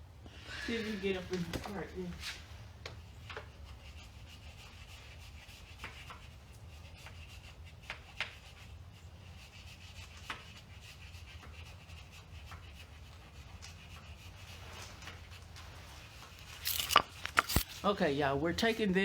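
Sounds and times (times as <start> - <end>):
scrubbing on brake rotor: 0.6 - 18.7.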